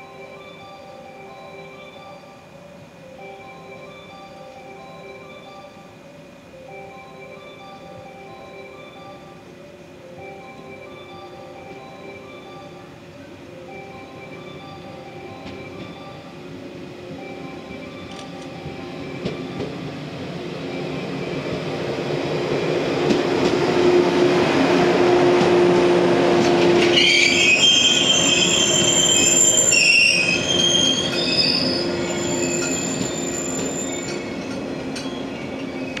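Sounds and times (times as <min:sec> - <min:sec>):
electric train running past: 0:00.0 - 0:36.0
high squealing under train: 0:00.0 - 0:36.0.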